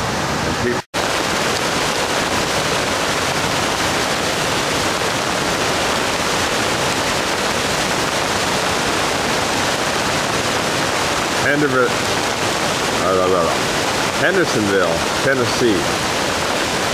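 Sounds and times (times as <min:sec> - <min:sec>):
floodwater rushing in creek: 0:00.0 - 0:16.9
heavy rain: 0:00.0 - 0:16.9.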